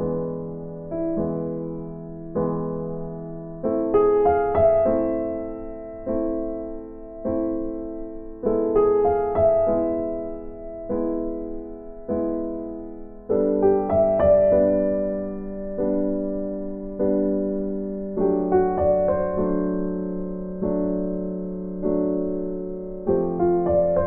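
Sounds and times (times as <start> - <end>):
electric piano chords: 0.0 - 24.0.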